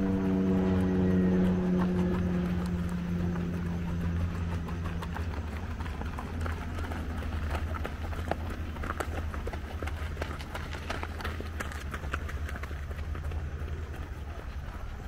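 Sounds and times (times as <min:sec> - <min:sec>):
low steady hum: 0:00.0 - 0:15.0
running footsteps on dirt: 0:00.0 - 0:15.0.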